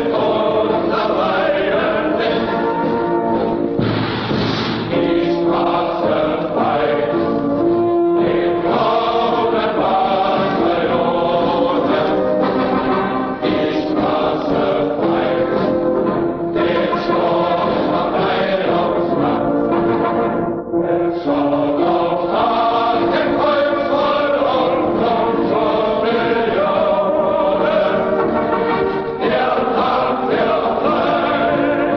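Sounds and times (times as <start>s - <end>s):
choir singing an anthem: 0.0s - 3.6s, 4.8s - 31.9s.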